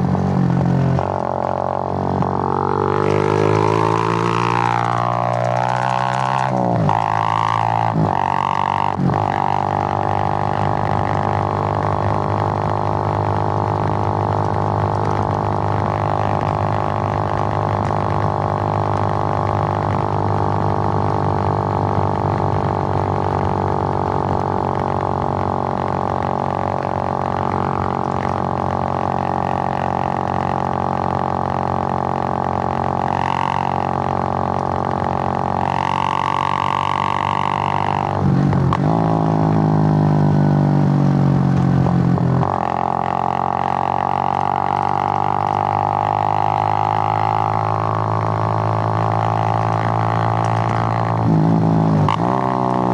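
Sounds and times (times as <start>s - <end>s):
motorcycle engine droning: 0.0s - 52.9s.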